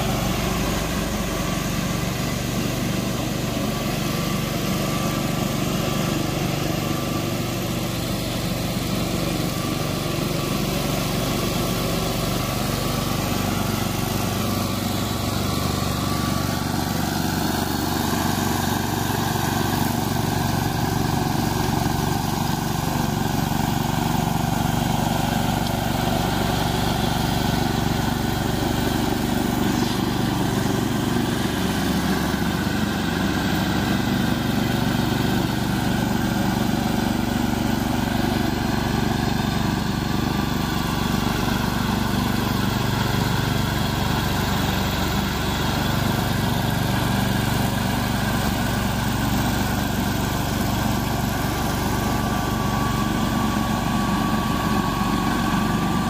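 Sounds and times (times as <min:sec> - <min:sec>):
lawn mower engine cutting grass: 0:00.0 - 0:56.0.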